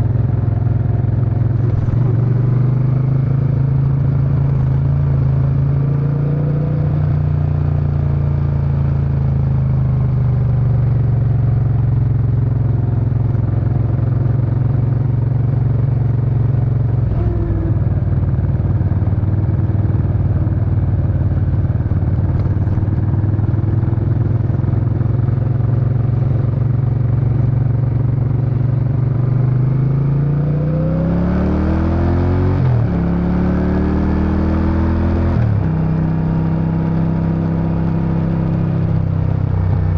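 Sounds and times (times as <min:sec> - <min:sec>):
motorcycle exhaust while riding: 0:00.0 - 0:39.9.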